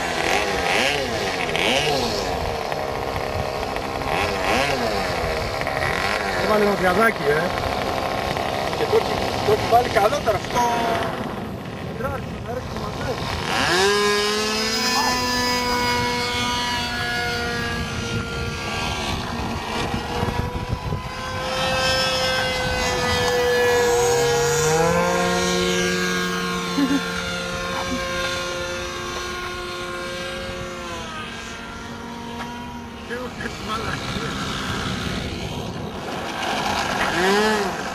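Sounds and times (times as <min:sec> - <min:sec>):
model airplane engine whine: 0:00.0 - 0:37.9.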